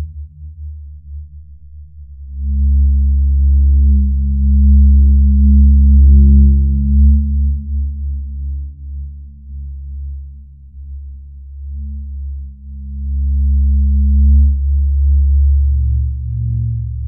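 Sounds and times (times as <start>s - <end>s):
deep low droning tone: 0.0s - 17.0s.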